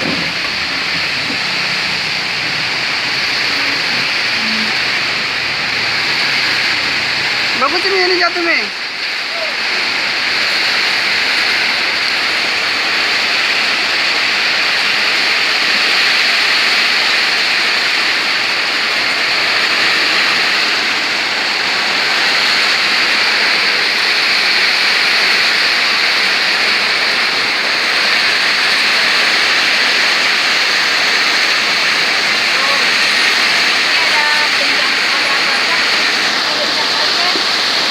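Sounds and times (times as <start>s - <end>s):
heavy rain pouring: 0.0s - 37.9s
strong wind: 0.0s - 37.9s.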